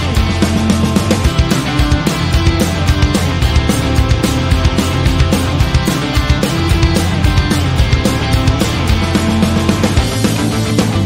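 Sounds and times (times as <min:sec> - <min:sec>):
upbeat rock music: 0:00.0 - 0:11.0.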